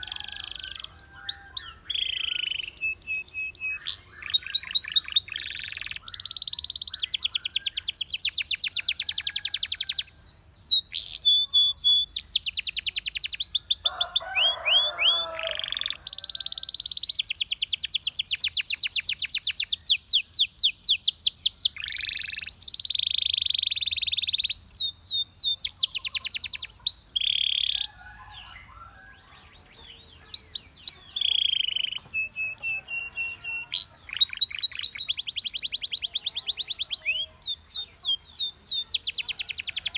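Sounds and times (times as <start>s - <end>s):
harsh chattering bird phrase: 0.0s - 10.2s, 10.8s - 28.4s, 29.6s - 39.9s
canary singing trills: 0.0s - 39.9s.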